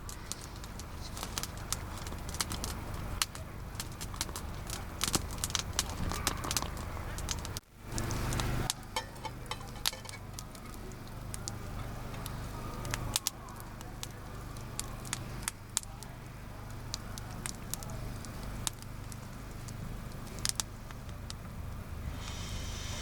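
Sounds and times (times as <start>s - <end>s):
campfire crackling and popping: 0.0s - 22.6s.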